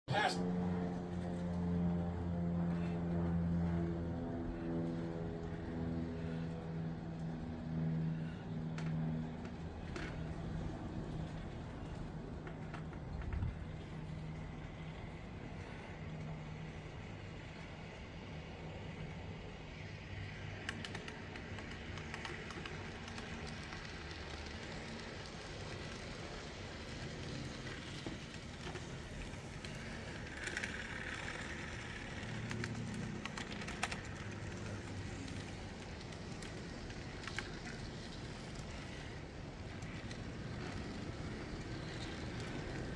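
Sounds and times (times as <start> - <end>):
wheel rumble on track: 0.9 - 42.9
model train motor hum: 1.2 - 42.9.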